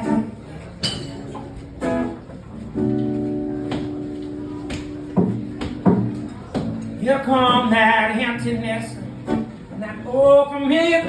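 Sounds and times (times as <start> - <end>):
guitar strumming: 1.1 - 11.0.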